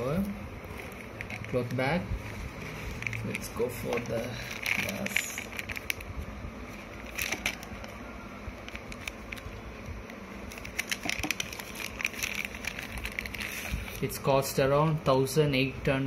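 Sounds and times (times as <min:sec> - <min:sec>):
plastic packaging crinkling: 0:00.0 - 0:14.3.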